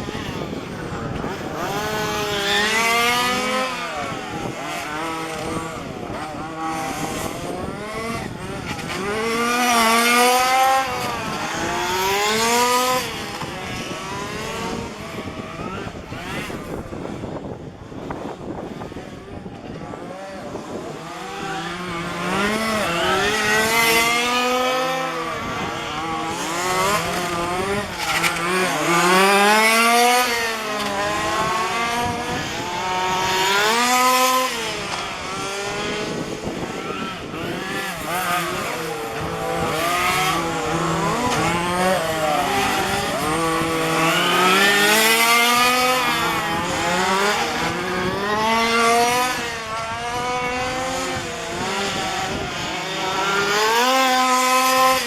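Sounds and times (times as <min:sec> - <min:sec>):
small engines revving: 0:00.0 - 0:55.0.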